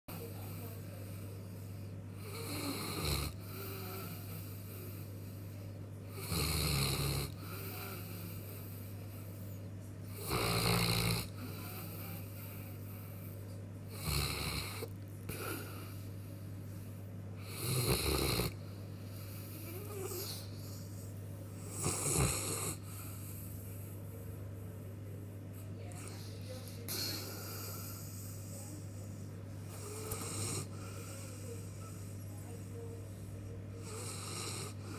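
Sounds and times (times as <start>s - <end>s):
dog snoring: 0.1s - 9.4s, 10.1s - 13.1s, 13.9s - 16.0s, 17.4s - 23.9s, 25.9s - 32.0s, 33.8s - 34.9s.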